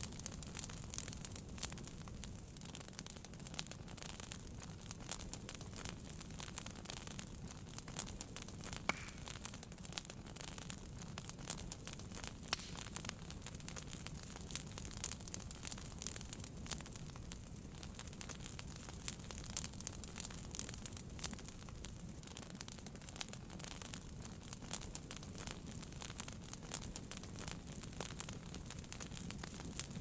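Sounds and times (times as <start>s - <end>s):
low fire rumble: 0.0s - 30.0s
wood fire crackling: 0.0s - 30.0s.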